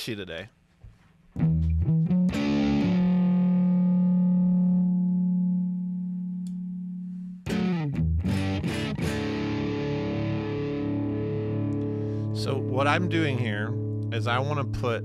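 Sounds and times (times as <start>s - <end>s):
overdriven electric guitar: 1.4s - 15.0s.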